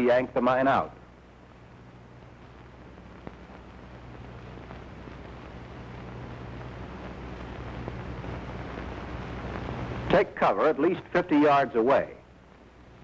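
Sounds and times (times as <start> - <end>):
low mains hum with hiss: 0.0 - 13.0.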